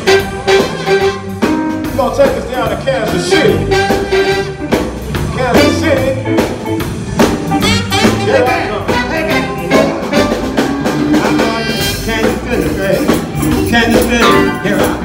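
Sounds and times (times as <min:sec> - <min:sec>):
blues band playing: 0:00.0 - 0:15.0
saxophone lead line: 0:00.0 - 0:15.0
steady drum beat: 0:00.0 - 0:15.0.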